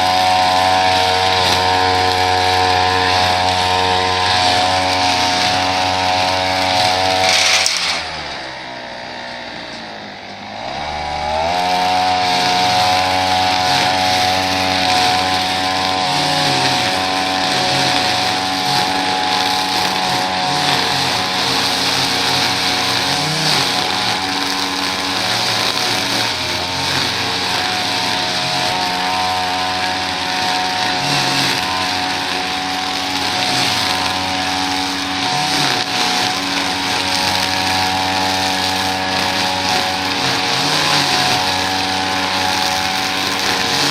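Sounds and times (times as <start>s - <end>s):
two-stroke engine revving: 0.0s - 43.9s.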